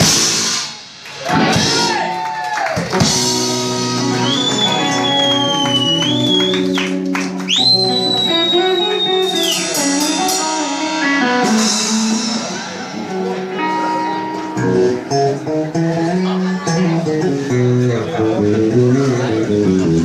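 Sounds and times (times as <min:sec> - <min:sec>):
drums: 0:00.0 - 0:20.0
bass line: 0:02.9 - 0:20.0
electric guitar bending notes: 0:02.9 - 0:20.0.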